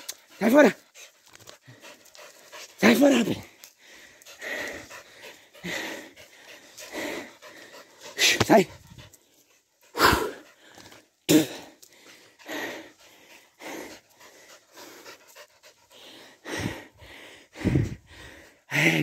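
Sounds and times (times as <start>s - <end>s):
heavy panting: 0.0s - 19.0s.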